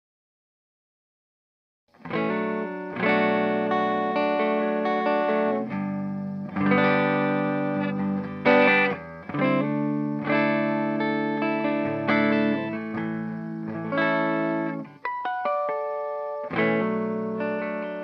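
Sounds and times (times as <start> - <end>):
electric guitar chords ringing: 2.0 - 18.0.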